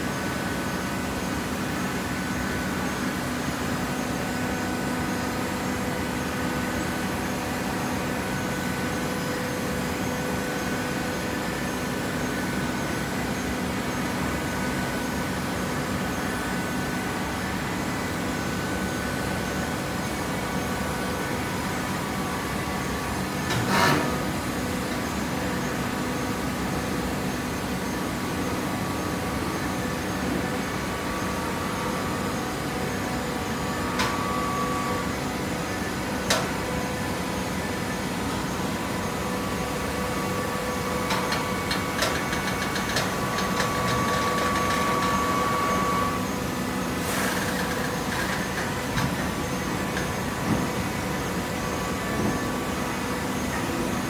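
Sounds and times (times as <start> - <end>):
baler running with steady hum: 0.0 - 54.0.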